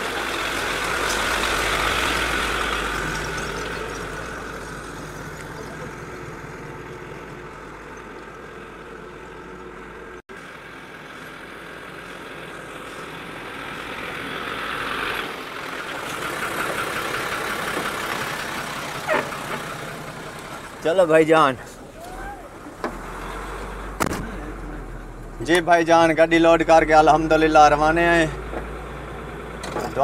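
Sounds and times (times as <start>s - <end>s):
diesel truck engine running: 0.0s - 30.0s.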